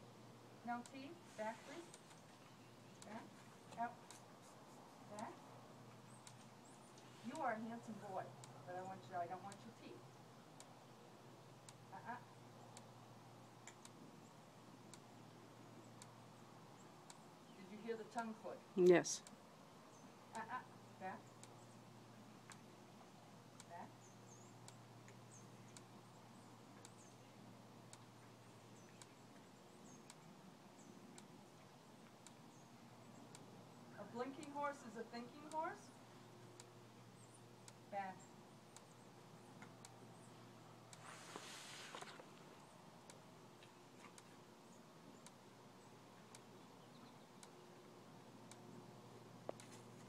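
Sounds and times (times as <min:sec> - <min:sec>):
soft ticking: 0:05.1 - 0:18.5, 0:19.2 - 0:41.1, 0:42.3 - 0:50.0.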